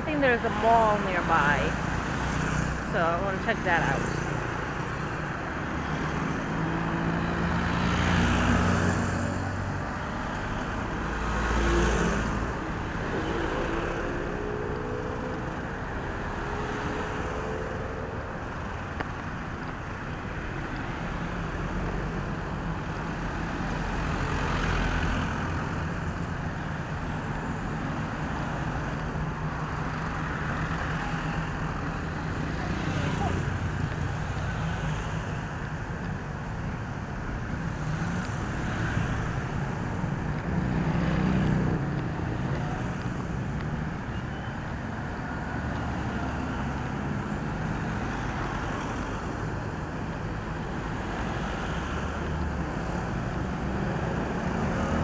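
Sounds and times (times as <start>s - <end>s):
cars and motorbikes driving past: 0.0s - 55.0s.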